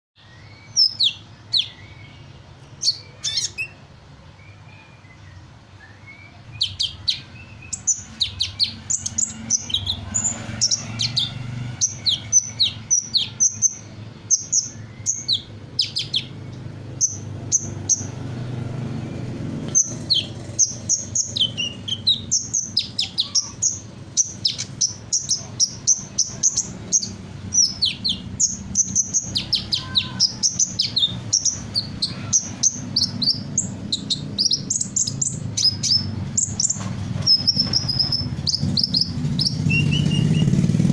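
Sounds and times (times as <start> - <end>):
bird chirping and trilling: 0.2 - 40.9.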